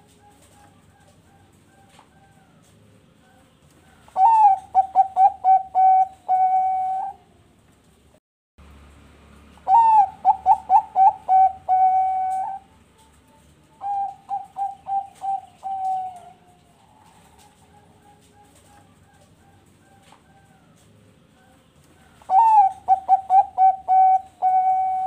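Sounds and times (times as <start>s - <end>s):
dove cooing: 0.0s - 7.4s, 9.6s - 13.0s, 13.6s - 25.0s.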